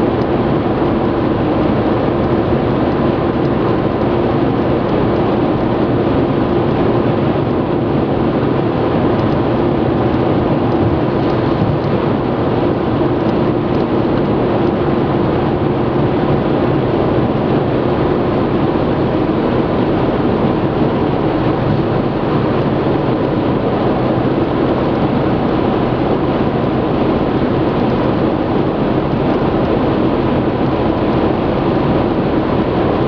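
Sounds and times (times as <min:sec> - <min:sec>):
faint engine hum: 0:00.0 - 0:33.0
tyre and wind road noise: 0:00.0 - 0:33.0.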